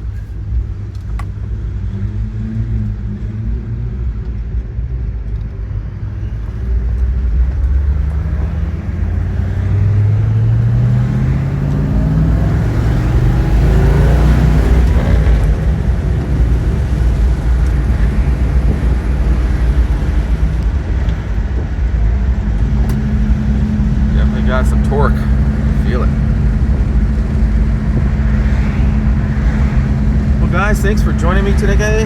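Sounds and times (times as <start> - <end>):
car engine accelerating: 0.0 - 32.0
road noise: 0.0 - 32.0.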